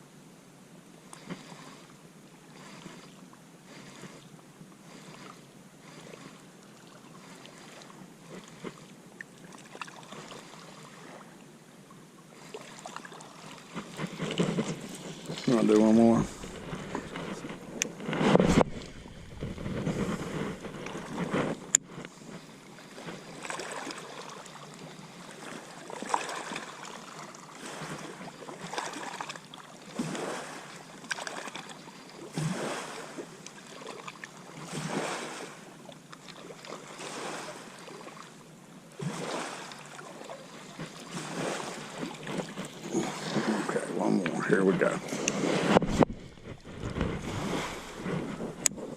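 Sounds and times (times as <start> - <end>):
small waves lapping on shore: 0.7 - 48.9.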